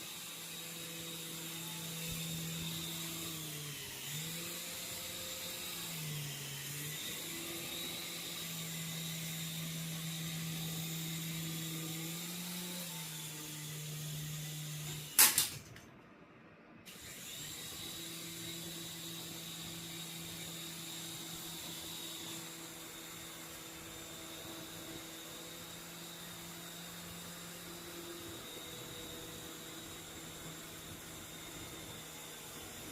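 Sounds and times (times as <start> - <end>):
toy helicopter motors whirring: 0.0 - 15.6, 16.9 - 32.9.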